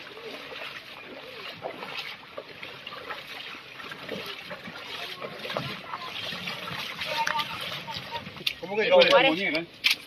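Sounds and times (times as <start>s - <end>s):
floodwater sloshing and splashing: 0.0s - 10.0s.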